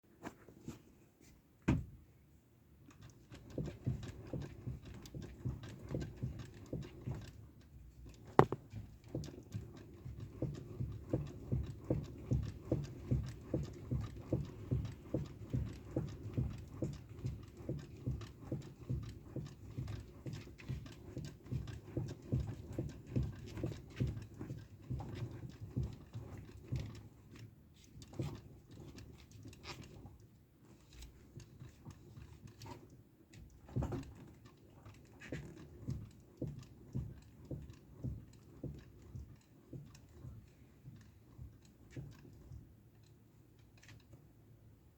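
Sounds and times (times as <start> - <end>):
steering gearbox knocking: 2.9 - 27.4, 31.0 - 42.8.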